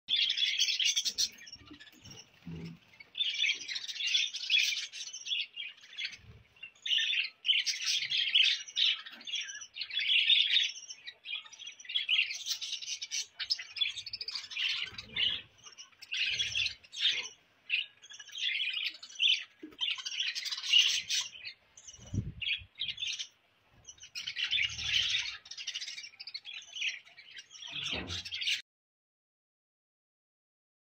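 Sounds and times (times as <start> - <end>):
budgerigars chirping: 0.1 - 28.6.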